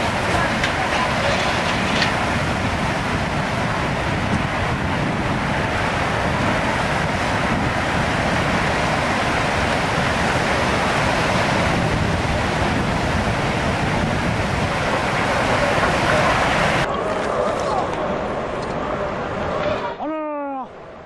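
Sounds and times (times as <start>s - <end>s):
wind buffeting microphone: 0.0s - 19.9s
floodwater rushing and churning: 0.0s - 20.0s.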